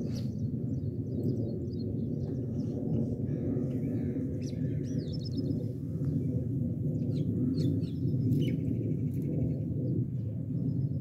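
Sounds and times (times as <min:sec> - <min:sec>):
small birds chirping: 0:00.0 - 0:06.3, 0:07.0 - 0:10.0
low rumbling noise: 0:00.0 - 0:11.0.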